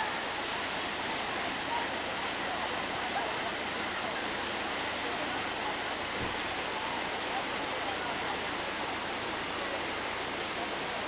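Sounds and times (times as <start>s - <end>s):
faint voices: 0.0s - 11.0s
stream rushing over rocks: 0.0s - 11.0s.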